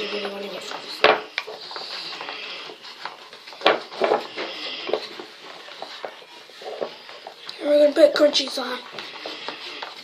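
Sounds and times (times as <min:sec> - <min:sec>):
slime stirred in a bowl: 0:00.0 - 0:10.0.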